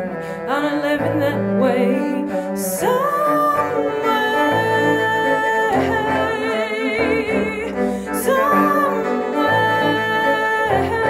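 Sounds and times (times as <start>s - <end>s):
bowed cello: 0.0s - 11.0s
woman singing with vibrato: 0.0s - 11.0s.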